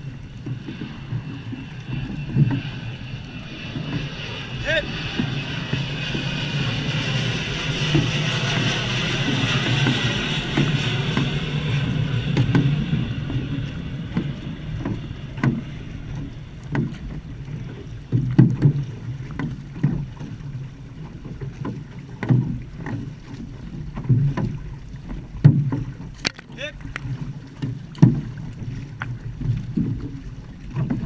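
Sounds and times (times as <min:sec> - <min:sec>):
paddles splashing in water: 0:00.0 - 0:31.0
rushing water: 0:00.0 - 0:31.0
wind: 0:00.0 - 0:31.0.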